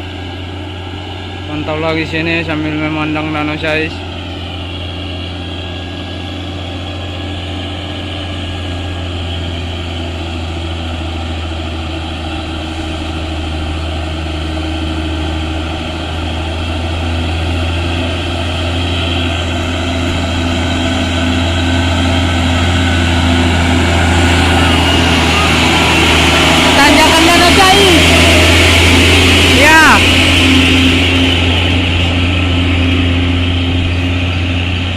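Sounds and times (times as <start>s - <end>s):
heavy truck engine humming: 0.0s - 34.9s.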